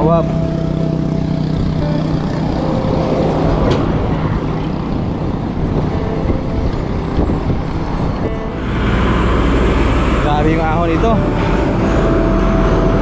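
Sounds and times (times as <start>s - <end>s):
road traffic passing: 0.0s - 13.0s
wind rush on microphone: 1.6s - 13.0s.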